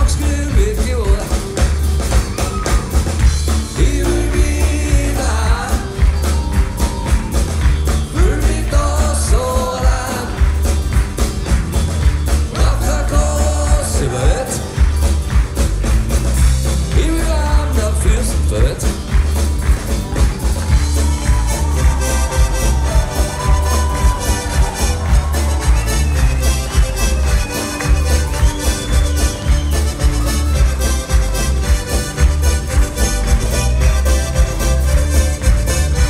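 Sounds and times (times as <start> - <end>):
electric bass: 0.0 - 36.0
guitars: 0.0 - 36.0.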